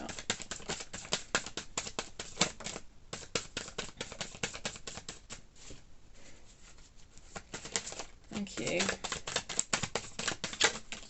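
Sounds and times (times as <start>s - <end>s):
cards being shuffled: 0.0s - 5.8s, 6.6s - 11.0s.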